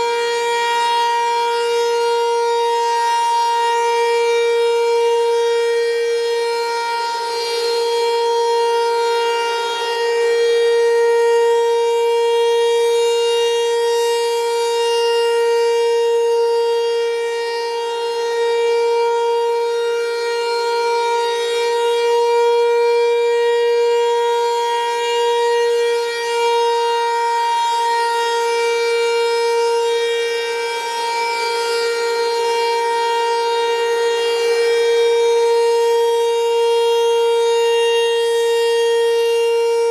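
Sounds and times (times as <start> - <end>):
steady warning siren: 0.0 - 39.9.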